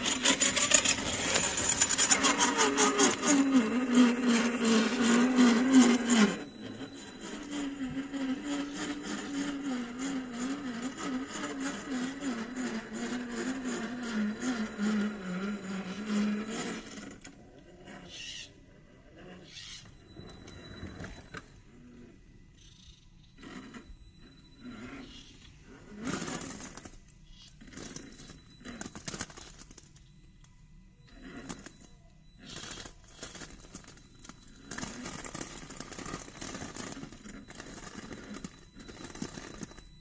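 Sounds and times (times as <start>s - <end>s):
electric motor whining: 0.0s - 40.0s.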